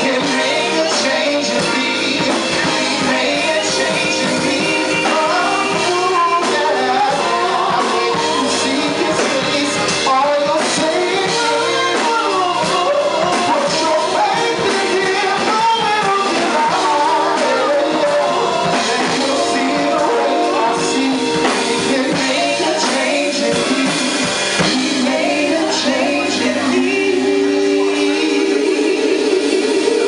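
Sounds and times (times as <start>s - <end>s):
drum kit beat: 0.0s - 30.0s
gospel band playing: 0.0s - 30.0s
voices singing: 0.0s - 30.0s.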